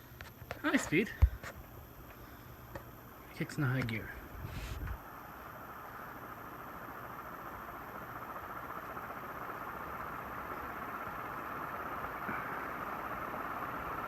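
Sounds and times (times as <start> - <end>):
ceiling fan running: 0.0 - 14.0.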